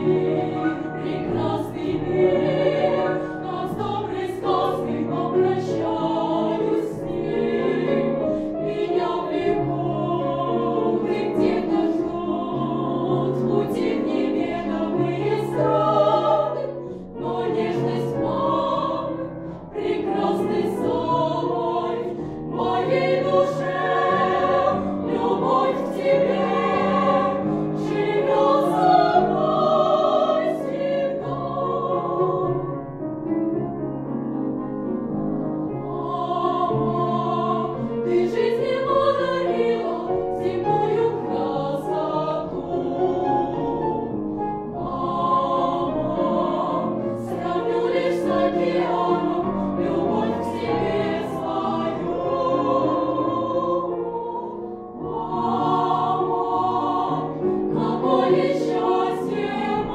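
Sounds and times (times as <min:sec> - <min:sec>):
girls choir singing in harmony: 0:00.0 - 0:59.9.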